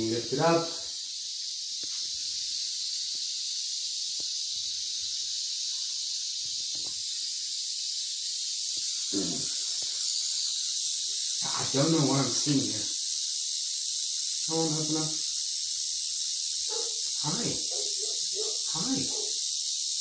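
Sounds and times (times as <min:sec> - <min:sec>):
rattlesnake rattle buzzing: 0:00.0 - 0:20.0.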